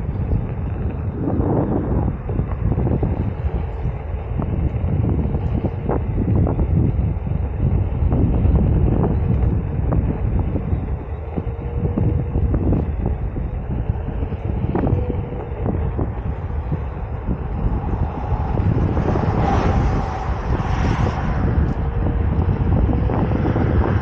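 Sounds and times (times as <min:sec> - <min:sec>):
faint steady whine: 0:00.0 - 0:24.0
wind rumbling on microphone: 0:00.0 - 0:24.0.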